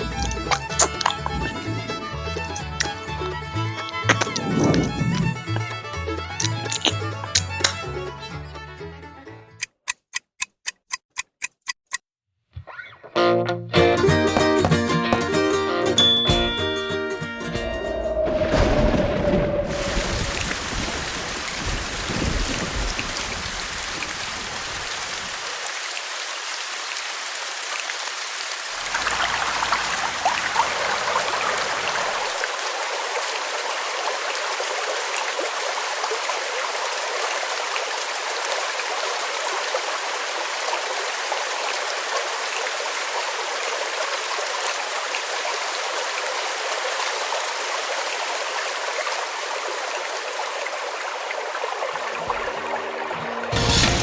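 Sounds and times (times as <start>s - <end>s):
running water: 0.0s - 8.3s, 14.1s - 54.0s.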